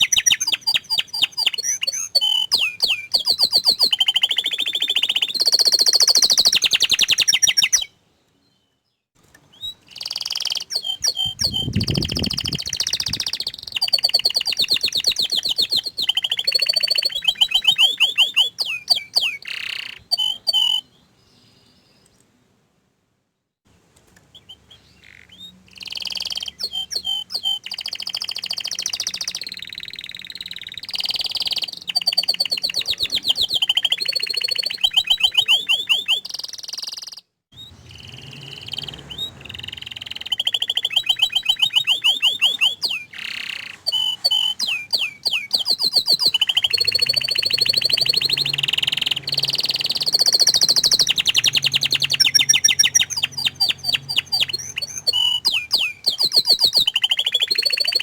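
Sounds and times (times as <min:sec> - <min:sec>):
canary singing trills and chirps: 0:00.0 - 0:22.2, 0:24.2 - 0:58.0.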